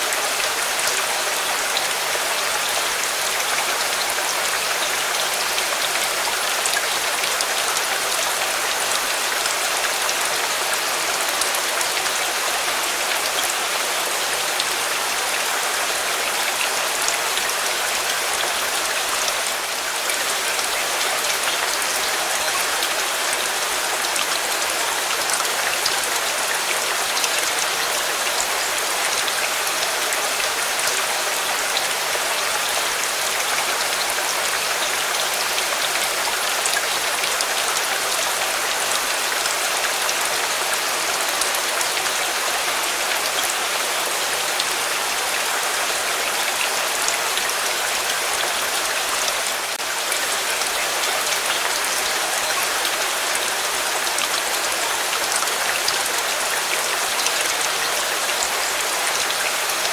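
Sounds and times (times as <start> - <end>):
heavy rain on a surface: 0.0 - 59.9.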